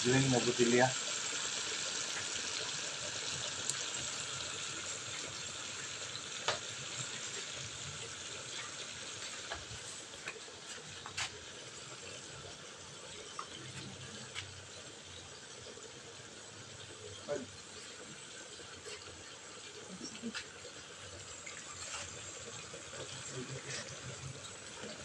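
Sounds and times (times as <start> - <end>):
fish sizzling in a frying pan: 0.0 - 25.0.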